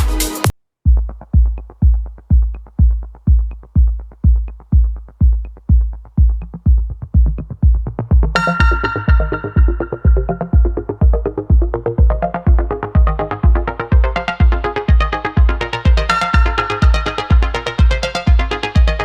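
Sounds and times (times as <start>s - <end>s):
deep kick-drum beat: 0.0s - 19.0s
synthesizer: 0.0s - 19.0s.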